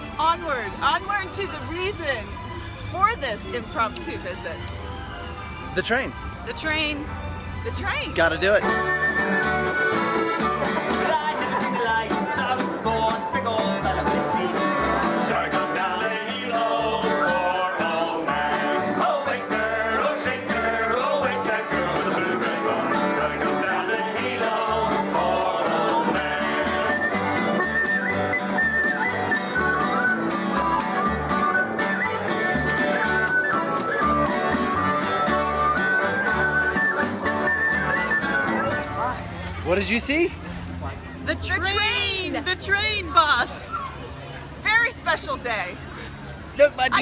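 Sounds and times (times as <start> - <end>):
upbeat bluegrass music: 0.0 - 43.7.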